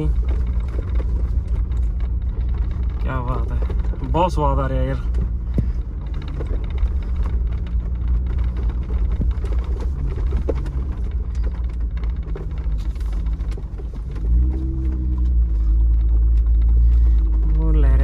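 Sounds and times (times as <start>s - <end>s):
car body knocks and rattles: 0.0s - 17.5s
car engine droning: 0.0s - 18.0s.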